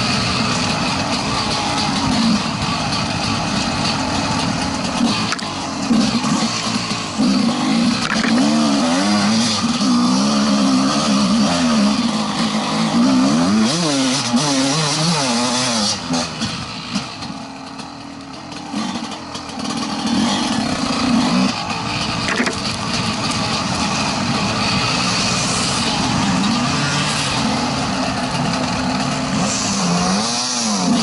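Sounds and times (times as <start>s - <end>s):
dirt bike engine: 0.0s - 31.0s.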